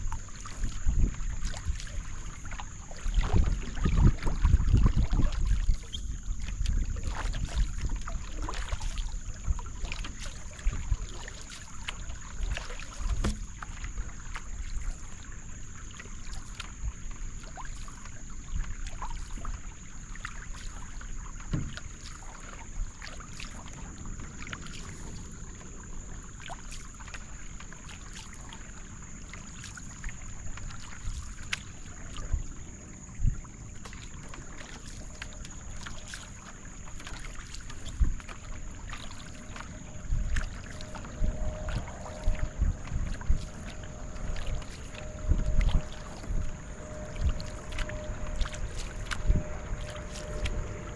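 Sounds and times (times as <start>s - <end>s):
paddle splashes and drips: 0.0s - 50.9s
water washing along hull: 0.0s - 50.9s
wind rumble on microphone: 0.0s - 50.9s.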